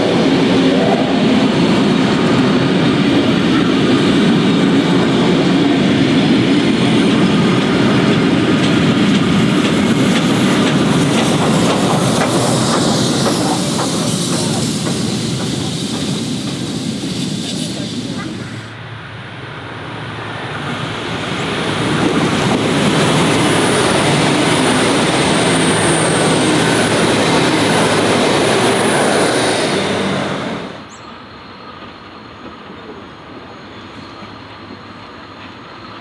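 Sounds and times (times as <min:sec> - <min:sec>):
passenger train passing at speed: 0:00.0 - 0:36.0.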